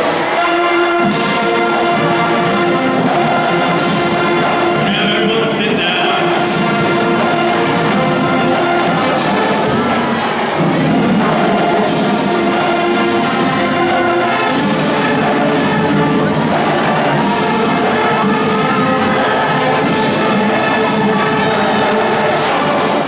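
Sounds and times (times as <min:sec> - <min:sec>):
brass sustained chords: 0:00.0 - 0:23.0
marching percussion hits: 0:00.0 - 0:23.0.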